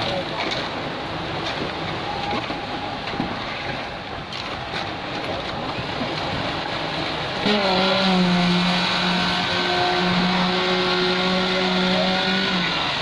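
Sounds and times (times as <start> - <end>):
pump truck engine hum: 0.0 - 13.0.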